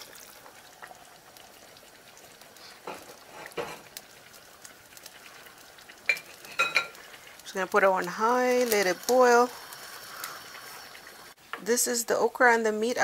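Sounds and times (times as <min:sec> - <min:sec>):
stew bubbling in a pot: 0:00.0 - 0:11.8.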